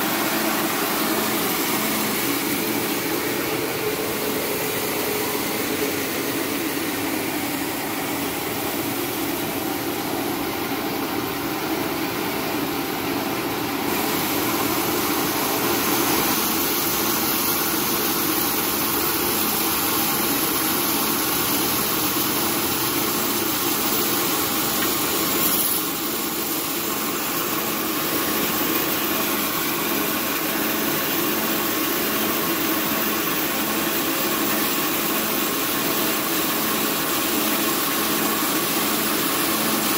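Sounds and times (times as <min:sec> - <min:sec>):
rice milling machine drone: 0:00.0 - 0:39.9.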